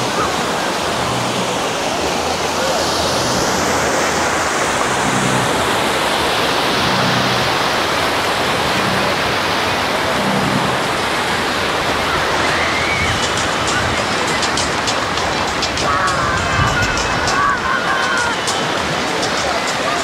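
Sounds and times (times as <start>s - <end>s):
small waves breaking: 0.0s - 20.0s.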